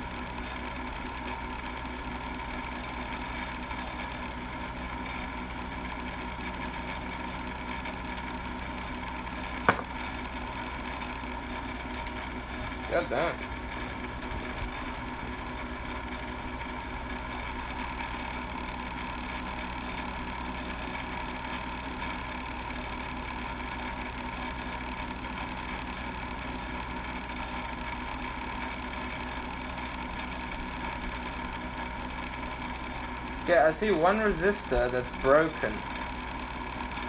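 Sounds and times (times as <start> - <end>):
small fan whirring hum: 0.0 - 37.0.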